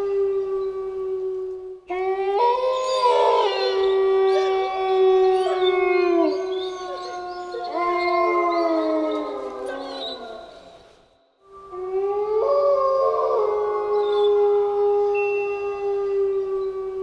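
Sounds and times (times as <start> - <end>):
wolves howling in chorus: 0.0 - 17.0.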